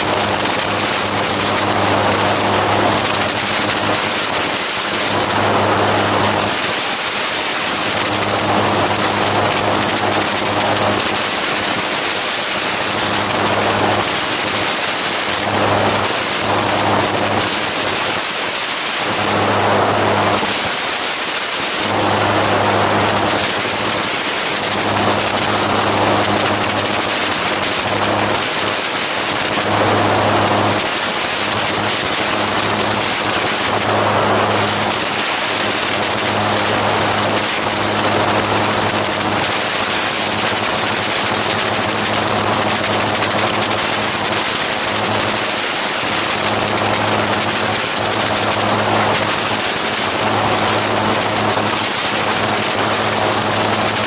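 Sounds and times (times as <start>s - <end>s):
aircraft engine and propeller: 0.0s - 54.0s.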